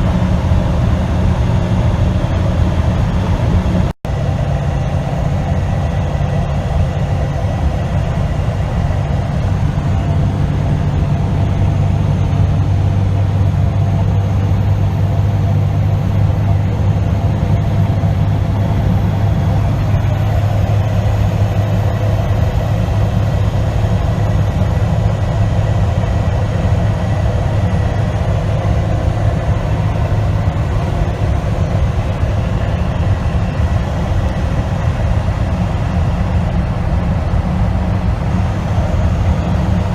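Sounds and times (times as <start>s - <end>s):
diesel truck engine and road noise: 0.0s - 39.9s.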